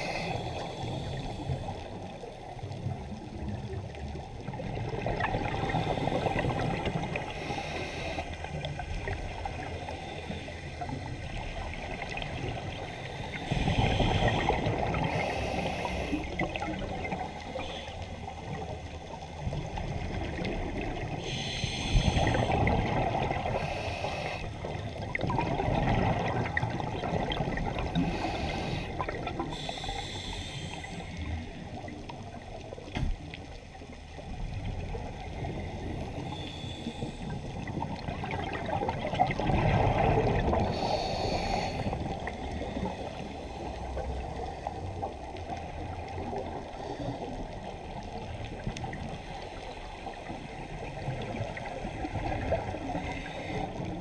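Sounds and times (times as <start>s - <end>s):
regulator bubbles gurgling: 0.0s - 54.0s.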